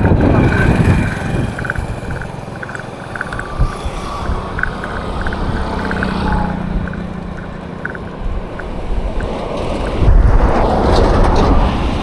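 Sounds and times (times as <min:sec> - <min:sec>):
road traffic: 0:00.0 - 0:12.0
wind rumbling on microphone: 0:00.0 - 0:12.0.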